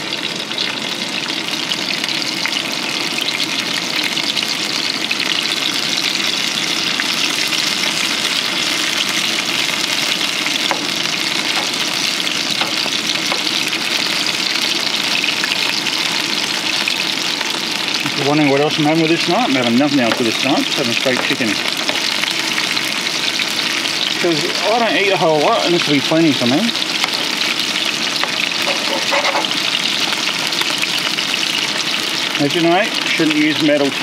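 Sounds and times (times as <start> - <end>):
chicken frying in oil: 0.0 - 34.0.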